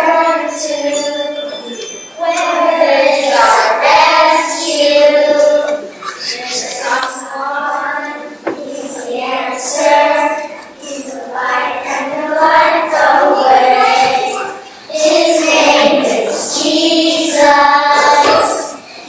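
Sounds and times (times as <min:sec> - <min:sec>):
young children singing: 0:00.0 - 0:19.0.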